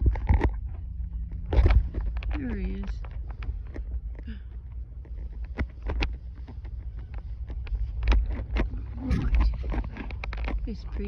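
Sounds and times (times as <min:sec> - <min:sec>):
horse tearing and chewing grass: 0:00.0 - 0:11.0
wind rumble on microphone: 0:00.0 - 0:11.0.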